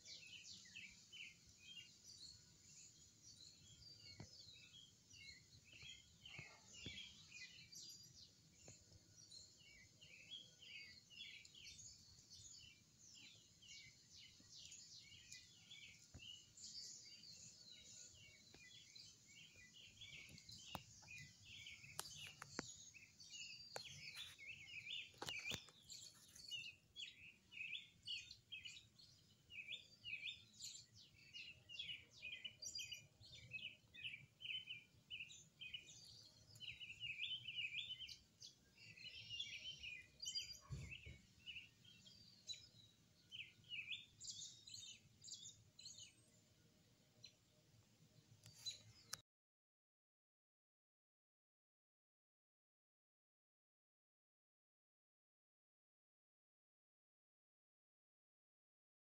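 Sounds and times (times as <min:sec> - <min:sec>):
small birds chirping: 0:00.0 - 0:49.2.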